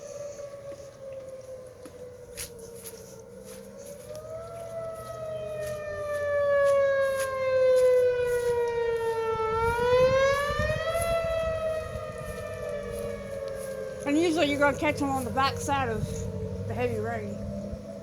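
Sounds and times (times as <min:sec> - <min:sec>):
warning siren wailing: 0:00.0 - 0:18.0.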